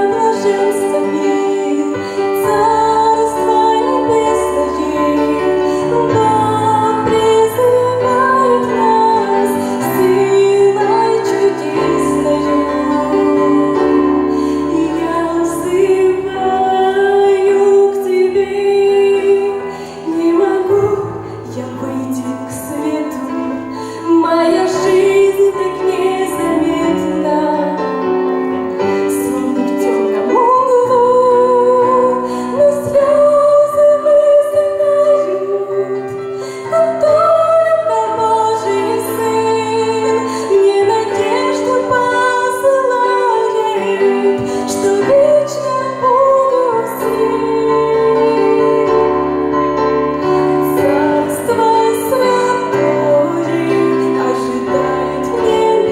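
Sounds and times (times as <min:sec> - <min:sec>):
instrumental accompaniment: 0:00.0 - 0:55.9
woman singing: 0:00.0 - 0:55.9.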